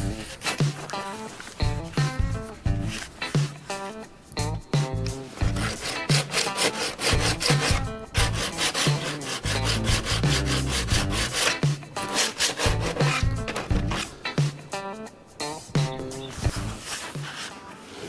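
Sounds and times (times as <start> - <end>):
hand tool rasping: 0.0 - 14.7, 16.3 - 18.0.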